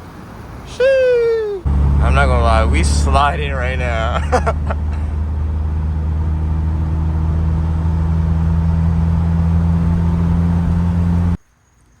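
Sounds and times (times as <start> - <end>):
road noise: 0.0 - 11.4
car engine running: 1.6 - 11.4.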